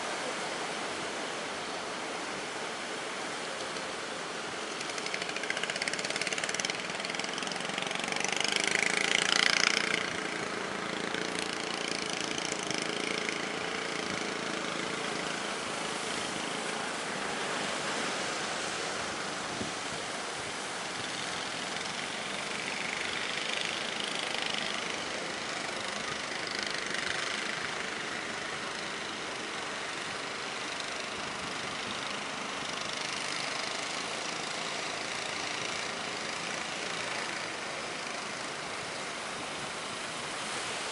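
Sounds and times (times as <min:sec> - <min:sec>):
water and wind rushing: 0:00.0 - 0:40.9
boat engine running: 0:00.1 - 0:40.9.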